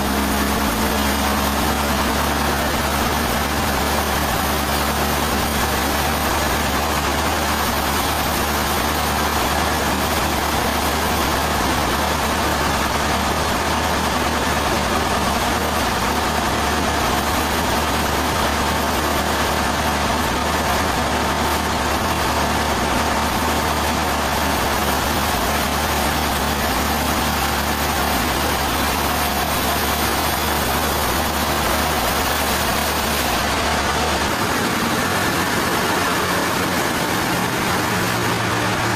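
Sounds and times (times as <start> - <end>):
dense machinery hiss: 0.0 - 38.9
sawmill engine drone: 0.0 - 38.9.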